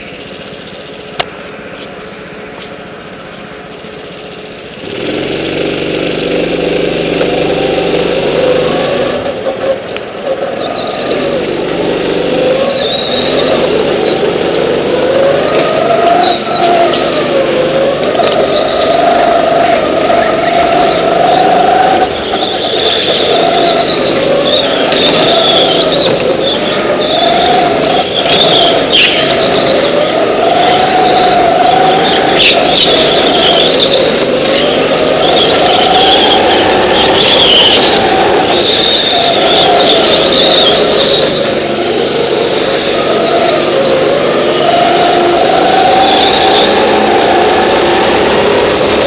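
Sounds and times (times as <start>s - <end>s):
go-kart engine revving: 0.0s - 49.0s
tyres squealing: 6.2s - 49.0s.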